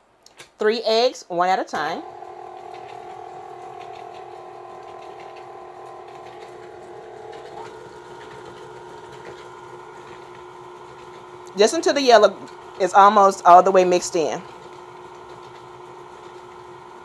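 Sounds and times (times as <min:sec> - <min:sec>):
stand mixer motor whining: 0:01.8 - 0:17.0.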